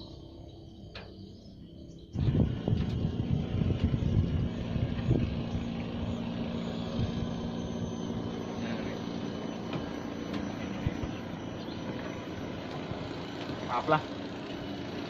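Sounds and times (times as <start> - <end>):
engine running low hum: 0.0 - 15.0.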